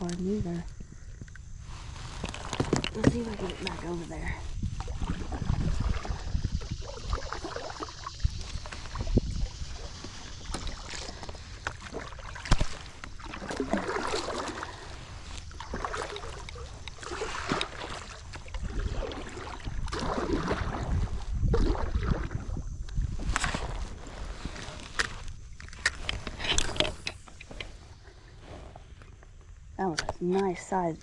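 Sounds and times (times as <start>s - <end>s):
wind rumbling on microphone: 0.0s - 31.0s
paddle splashing in water: 1.7s - 29.2s.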